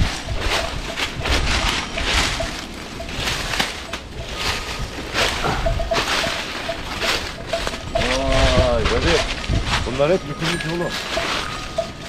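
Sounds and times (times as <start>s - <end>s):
wind buffeting microphone: 0.0s - 12.0s
wind rushing through trees: 0.0s - 12.0s.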